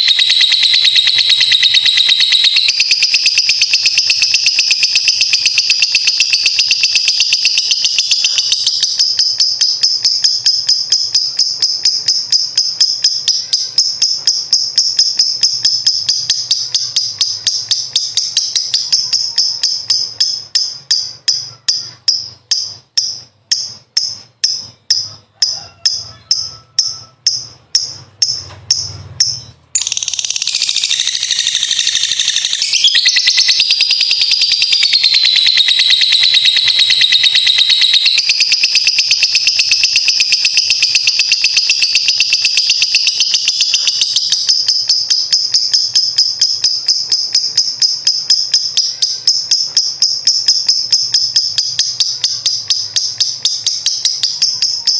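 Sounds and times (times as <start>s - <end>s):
lovebird rattling trill: 0.0s - 54.9s.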